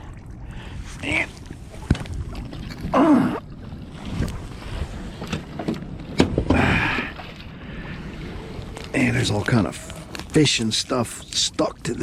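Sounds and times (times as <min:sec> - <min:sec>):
water sloshing and draining: 0:00.0 - 0:12.0.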